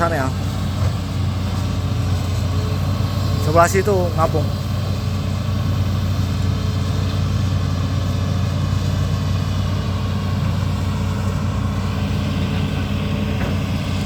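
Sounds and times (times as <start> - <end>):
diesel engine humming: 0.0 - 14.0.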